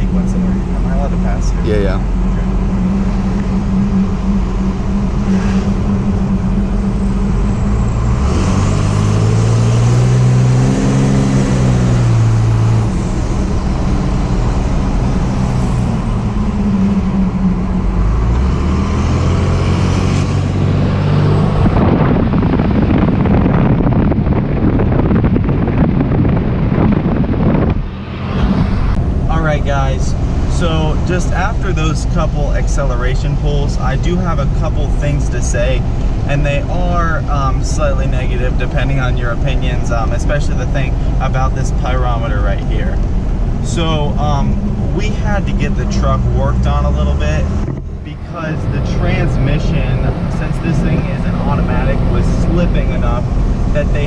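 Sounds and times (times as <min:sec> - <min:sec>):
diesel engine accelerating: 0:00.0 - 0:54.0.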